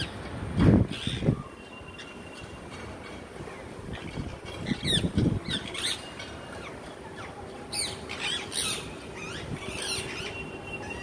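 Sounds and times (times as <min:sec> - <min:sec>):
parakeets screeching: 0:00.9 - 0:02.7, 0:03.9 - 0:11.0.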